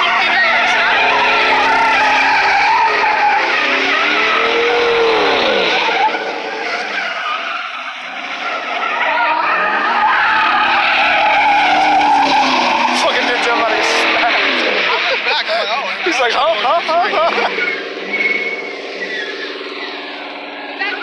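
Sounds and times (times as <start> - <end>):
engine revving hard: 0.0 - 21.0
tires squealing on asphalt: 0.0 - 21.0.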